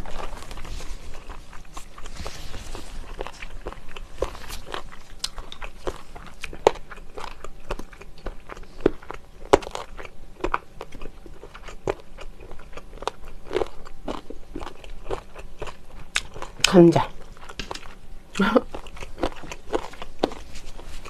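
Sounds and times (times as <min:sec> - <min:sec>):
person chewing with wet smacks: 0:00.0 - 0:21.0.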